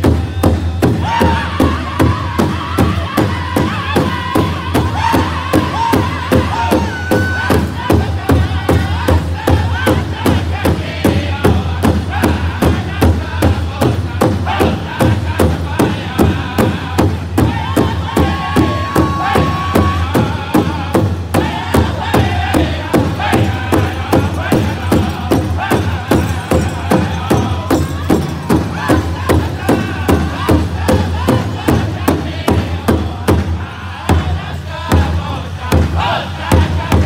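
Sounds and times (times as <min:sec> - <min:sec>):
group singing: 0:00.0 - 0:37.0
large drum beating: 0:00.0 - 0:37.0.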